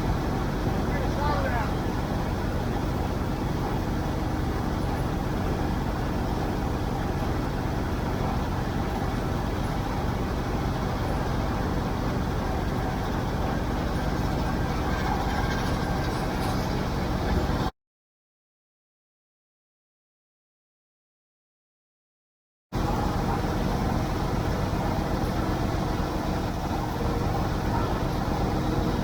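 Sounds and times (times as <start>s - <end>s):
wind: 0.0s - 17.7s, 22.7s - 29.0s.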